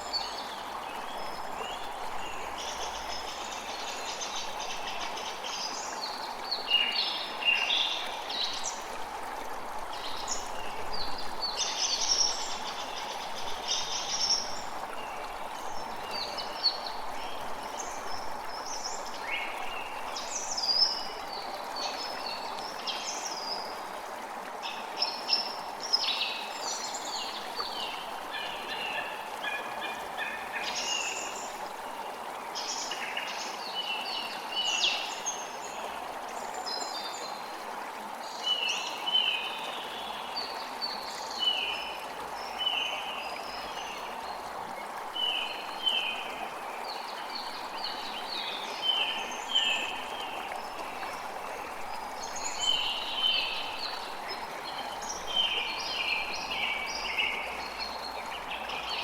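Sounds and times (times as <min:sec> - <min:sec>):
creek flowing: 0:00.0 - 0:59.0.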